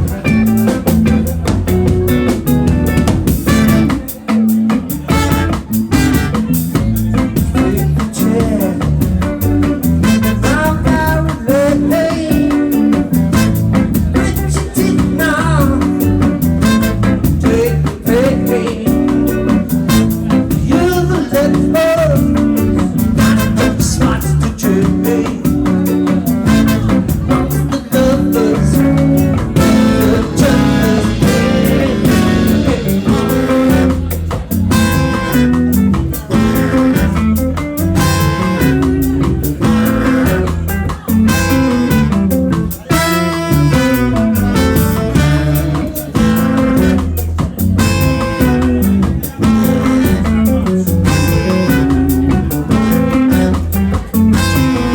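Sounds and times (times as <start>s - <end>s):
drums: 0.0s - 54.9s
guitar: 0.0s - 54.9s
rock band playing live: 0.0s - 54.9s
person singing: 3.3s - 54.9s.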